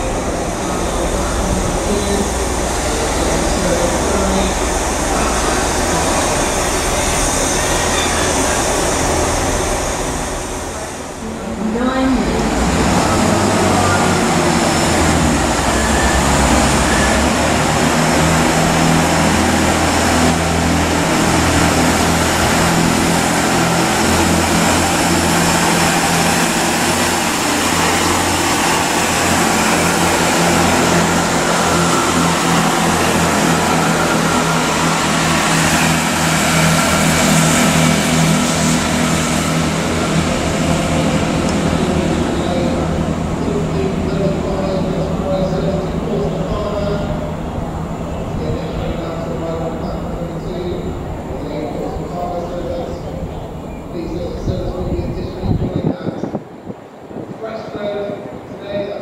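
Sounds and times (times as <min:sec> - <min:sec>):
diesel train engines throbbing: 0:00.0 - 0:59.0.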